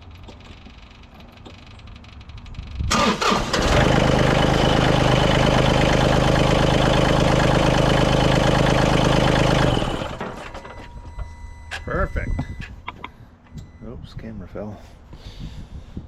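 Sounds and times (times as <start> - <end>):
diesel engine cranking and running: 0.0 - 12.9.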